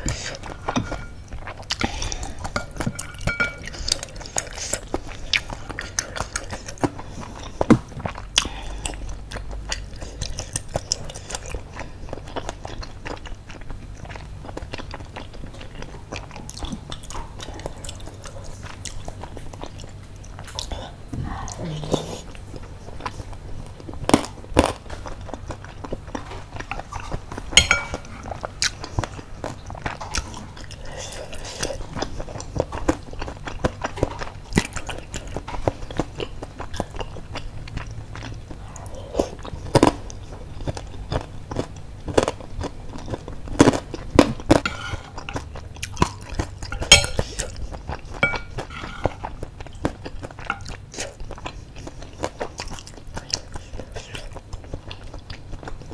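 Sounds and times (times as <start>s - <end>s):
chewing with wet mouth sounds: 0.0s - 55.9s.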